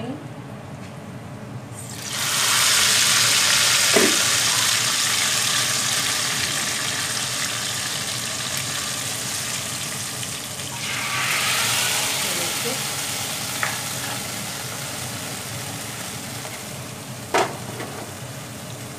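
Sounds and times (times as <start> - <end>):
hot oil sizzling: 1.8 - 18.9.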